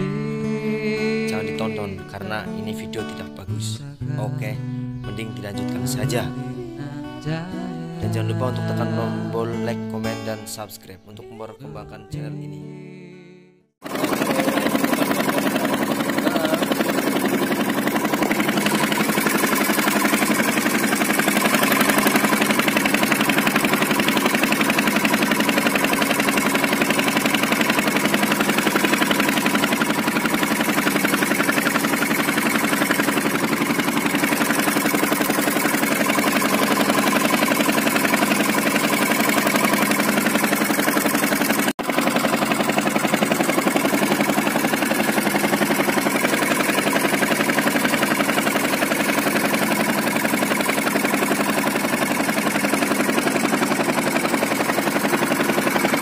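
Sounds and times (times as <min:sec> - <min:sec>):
boat motor droning: 0:00.0 - 0:12.7, 0:13.7 - 0:56.0.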